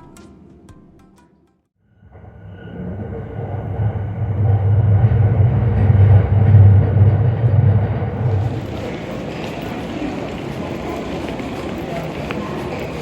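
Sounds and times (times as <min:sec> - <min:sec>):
low vehicle rumble: 0:02.0 - 0:12.5.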